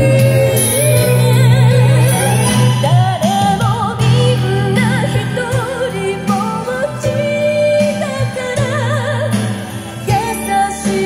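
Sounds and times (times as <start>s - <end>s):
person singing with vibrato: 0.0s - 11.0s
sustained musical accompaniment: 0.0s - 11.0s.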